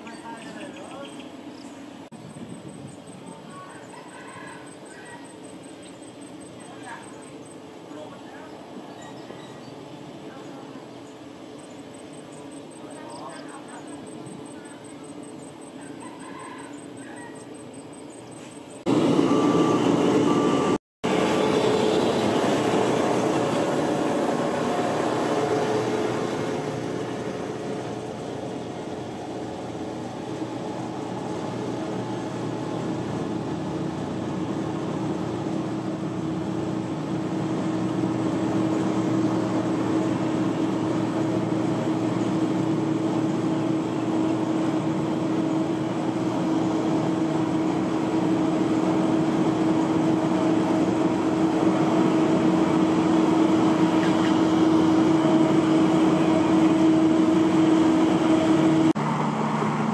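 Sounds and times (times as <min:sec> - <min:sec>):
diesel construction machinery running: 0:00.0 - 0:59.9.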